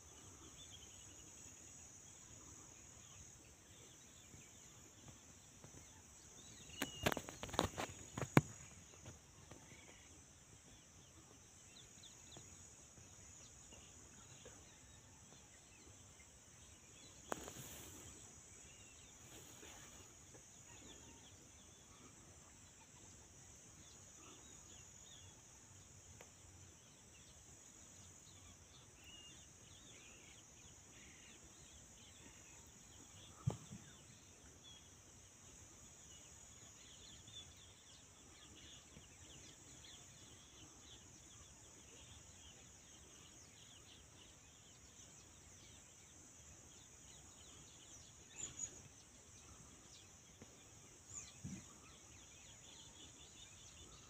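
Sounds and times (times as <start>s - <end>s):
faint bird chirps: 0.0s - 54.0s
insects droning: 0.0s - 54.0s.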